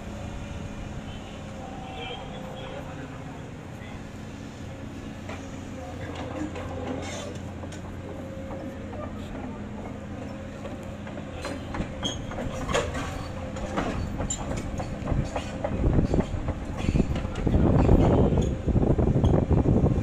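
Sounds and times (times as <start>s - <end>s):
low mechanical rumble with hum: 0.0s - 20.0s.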